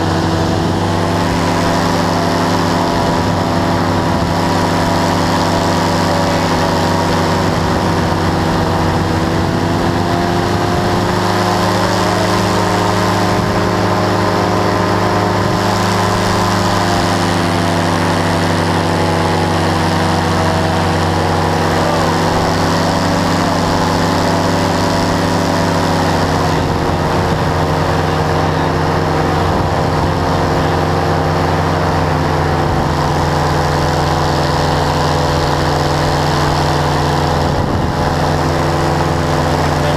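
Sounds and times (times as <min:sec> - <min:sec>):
engine and propeller running: 0:00.0 - 0:39.9.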